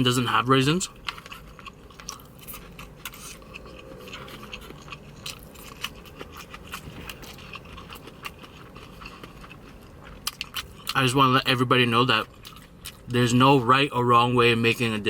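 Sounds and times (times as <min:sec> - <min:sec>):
person chewing food: 0:00.2 - 0:11.4, 0:12.0 - 0:13.2.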